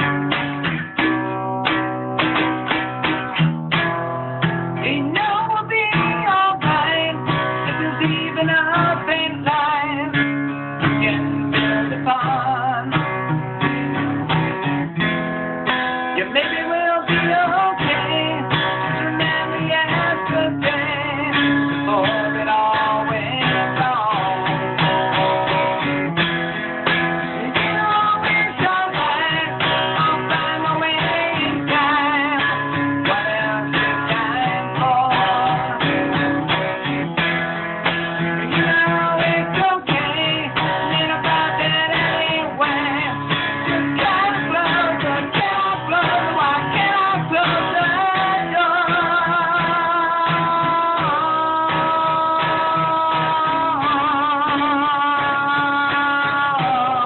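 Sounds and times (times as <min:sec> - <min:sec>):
acoustic guitar strummed and picked: 0:00.0 - 0:57.0.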